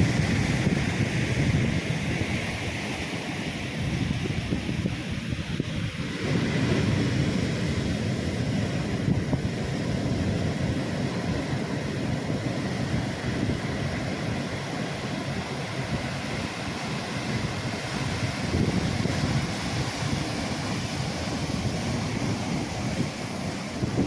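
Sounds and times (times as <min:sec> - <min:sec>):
ocean surf on a beach: 0:00.0 - 0:24.0
wind buffeting microphone: 0:00.0 - 0:24.0.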